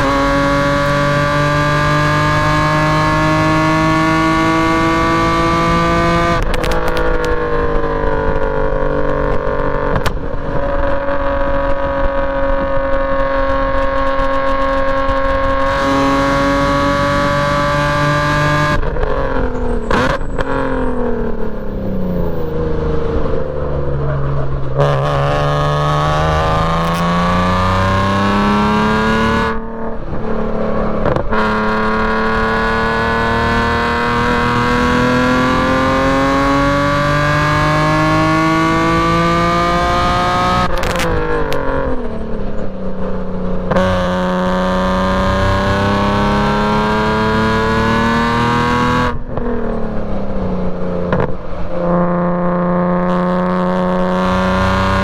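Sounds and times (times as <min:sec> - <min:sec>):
car engine revving on track: 0:00.0 - 0:55.0.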